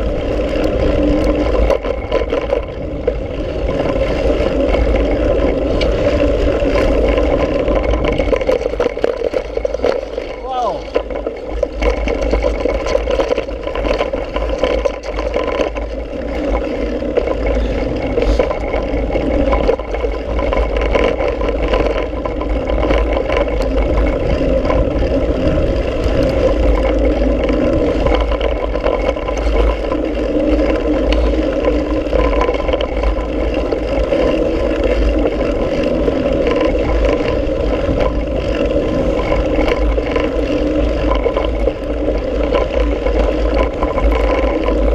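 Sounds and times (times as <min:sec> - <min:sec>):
wind rushing on microphone: 0:00.0 - 0:13.1, 0:13.8 - 0:44.9
tyres rumbling over dirt: 0:00.0 - 0:44.9.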